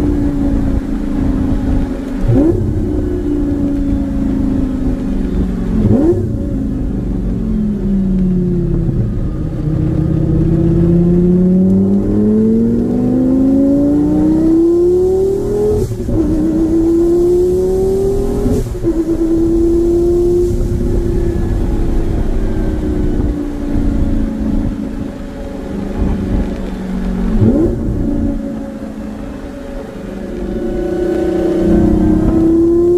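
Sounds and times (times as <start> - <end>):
sports car accelerating: 0.0 - 32.9.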